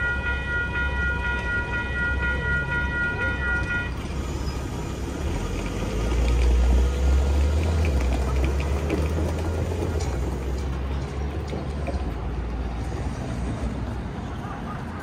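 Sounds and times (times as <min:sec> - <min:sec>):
street noise: 0:00.0 - 0:15.0
passing vehicle rumble: 0:02.4 - 0:15.0.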